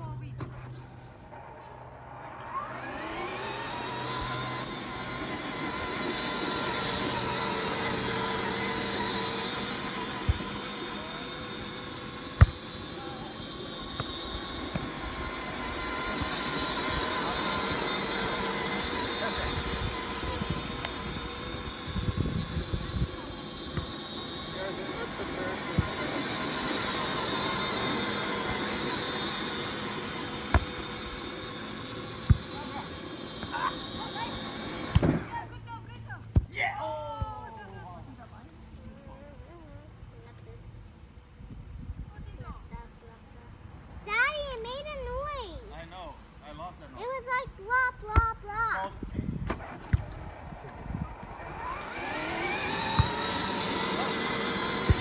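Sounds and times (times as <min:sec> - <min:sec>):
motor drone: 0:00.0 - 0:42.6, 0:48.6 - 0:55.0
outdoor background noise: 0:00.0 - 0:55.0.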